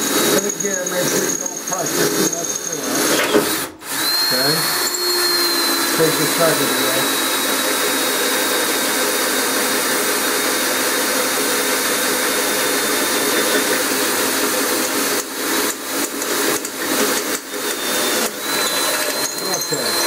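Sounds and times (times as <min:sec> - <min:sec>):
power drill boring through steel: 0:00.0 - 0:20.0.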